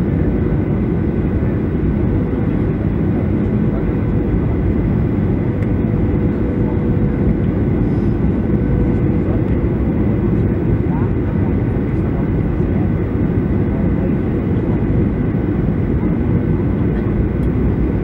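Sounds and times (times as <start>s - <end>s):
airplane cabin engine noise: 0.0s - 18.0s.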